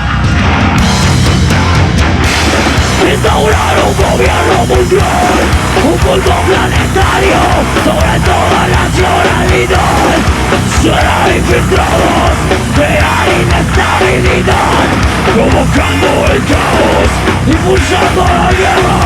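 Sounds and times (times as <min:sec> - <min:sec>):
live heavy metal band: 0:00.0 - 0:19.0
person yelling vocals: 0:03.0 - 0:10.2, 0:10.8 - 0:19.0.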